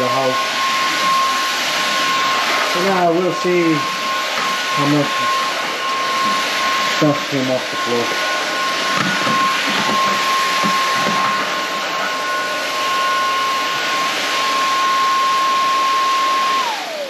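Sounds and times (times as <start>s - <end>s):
stick vacuum motor whine: 0.0s - 17.0s
vacuum motor spinning down: 0.0s - 17.0s.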